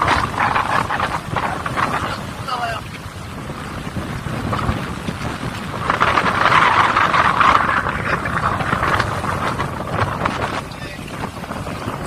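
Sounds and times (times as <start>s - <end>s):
boat engine running: 0.0s - 12.0s
water rushing: 0.0s - 12.0s
wind noise on microphone: 0.0s - 12.0s.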